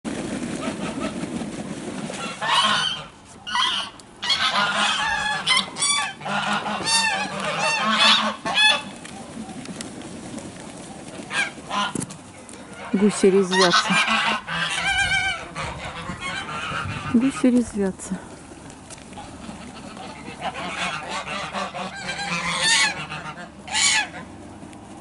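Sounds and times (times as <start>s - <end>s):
geese honking: 0.5s - 24.6s.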